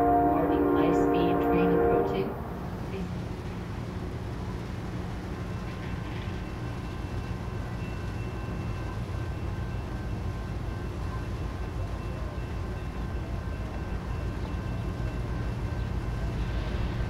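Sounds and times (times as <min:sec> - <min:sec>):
distant locomotive rumble: 0:00.0 - 0:17.0.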